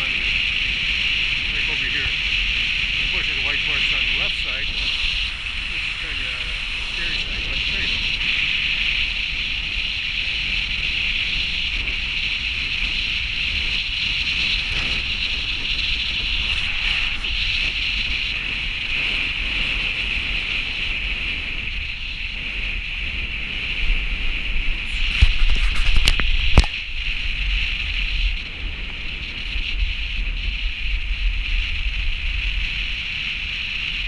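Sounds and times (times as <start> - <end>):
tyres rumbling on gravel road: 0.0 - 34.0
wind noise on microphone: 0.0 - 34.0.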